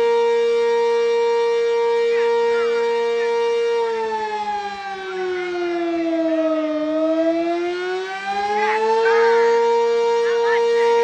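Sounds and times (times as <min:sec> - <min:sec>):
outdoor warning siren: 0:00.0 - 0:11.0.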